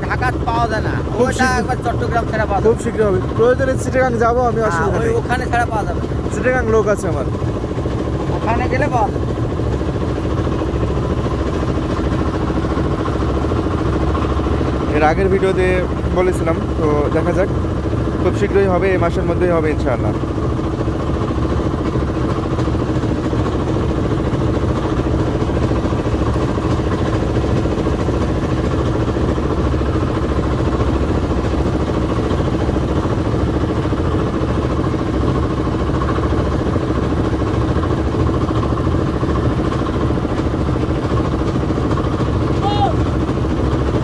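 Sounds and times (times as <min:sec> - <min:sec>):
engine-driven air compressor running: 0:00.0 - 0:44.0.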